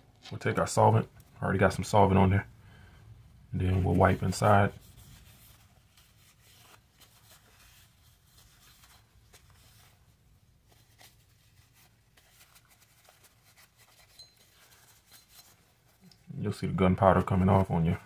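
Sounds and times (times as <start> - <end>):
faint rubbing and handling: 0.0 - 18.0.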